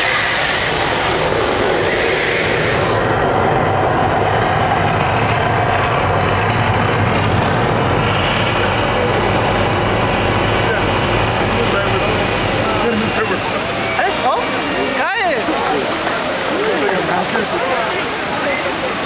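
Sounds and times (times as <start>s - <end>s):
volcano show rumbling roar: 0.0s - 19.0s.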